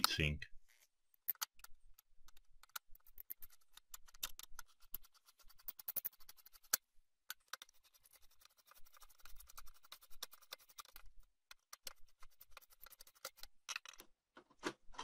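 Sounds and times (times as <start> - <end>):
screwdriver clicking and scratching: 0.7 - 14.0.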